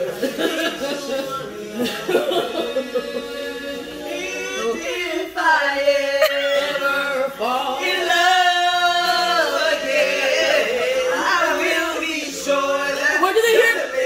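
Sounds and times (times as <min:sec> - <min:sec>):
women singing karaoke: 0:00.0 - 0:14.0.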